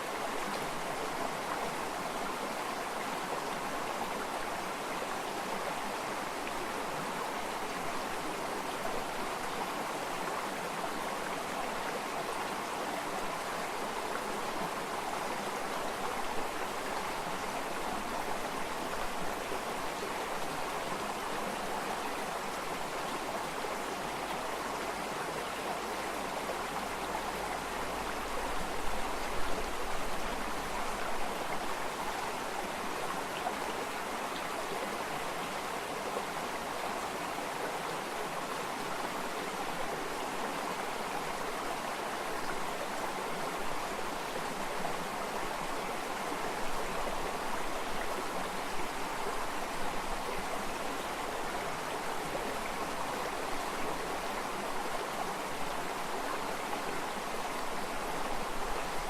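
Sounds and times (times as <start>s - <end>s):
water flowing steadily: 0.0s - 59.0s.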